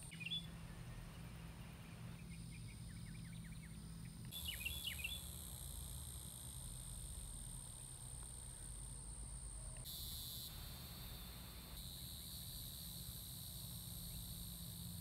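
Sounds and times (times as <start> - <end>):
insects trilling: 2.1 - 15.0.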